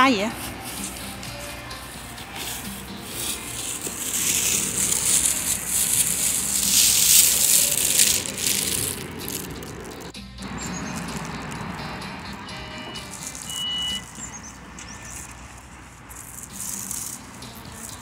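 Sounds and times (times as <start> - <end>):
plastic bag rustling: 0.3 - 18.0.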